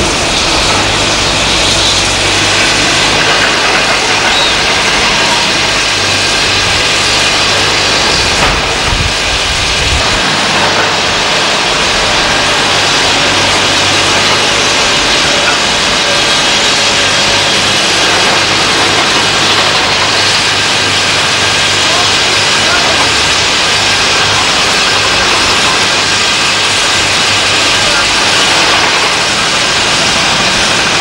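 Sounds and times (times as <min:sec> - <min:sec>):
excavator diesel engine: 0:00.0 - 0:31.0.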